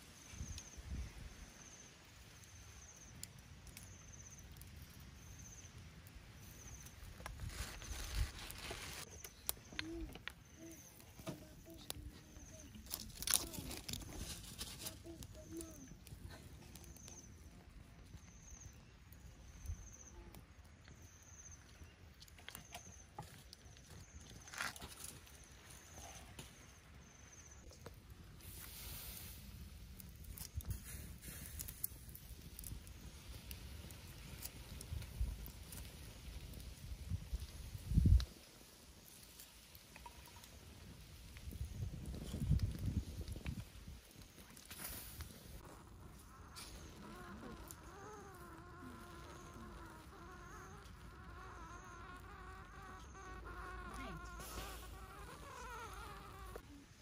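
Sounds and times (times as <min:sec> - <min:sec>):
insect chirping: 0:00.0 - 0:16.1, 0:16.7 - 0:27.9, 0:31.6 - 0:56.9.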